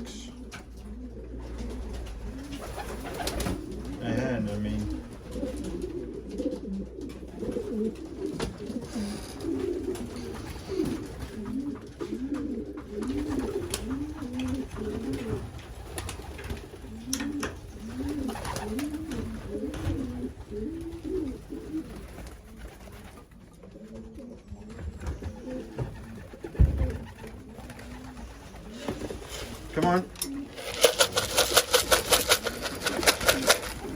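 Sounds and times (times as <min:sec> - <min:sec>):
pigeons cooing: 0:00.0 - 0:33.9.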